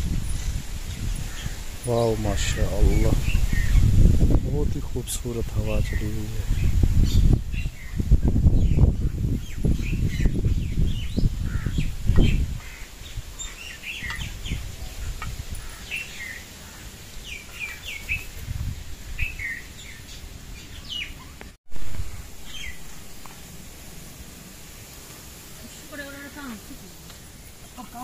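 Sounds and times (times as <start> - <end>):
birds chirping: 0.0 - 28.0
wind buffeting microphone: 0.0 - 28.0.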